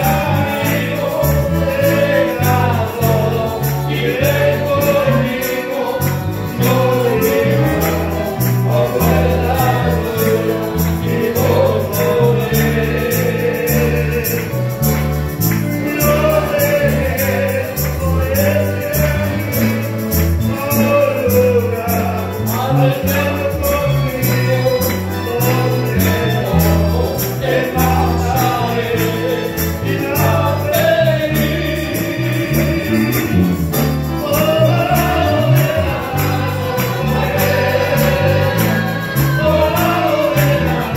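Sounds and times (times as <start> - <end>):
congregation singing a hymn: 0.0 - 40.9
rhythmic bass line: 0.0 - 40.9
strummed guitars: 0.0 - 40.9.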